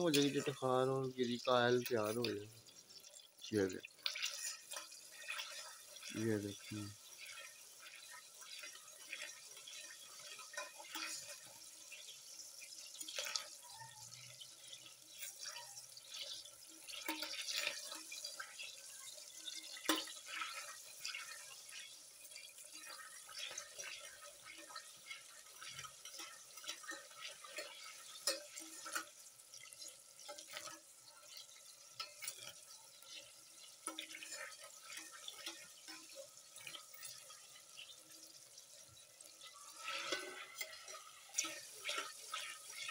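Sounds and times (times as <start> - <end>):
spoon stirring in metal pot: 0.0 - 0.6, 1.3 - 42.9
coconut cream sizzling in saucepan: 0.0 - 42.9.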